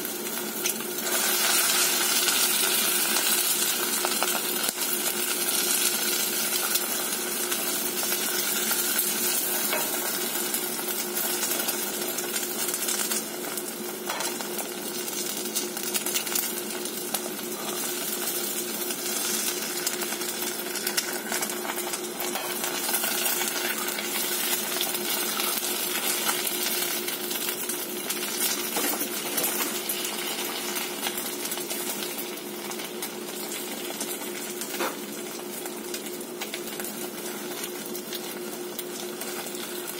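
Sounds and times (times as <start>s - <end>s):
eggs sizzling in a skillet: 0.0s - 39.9s.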